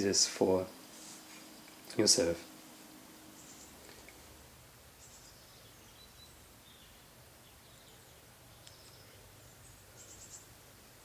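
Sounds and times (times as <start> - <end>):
birds chirping: 0.0 - 11.0
faint garden ambience: 0.0 - 11.0.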